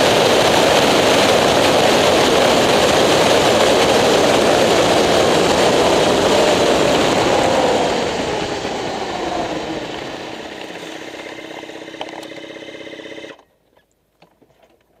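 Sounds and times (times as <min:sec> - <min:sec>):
motorcycle engine winding down: 0:00.0 - 0:13.6.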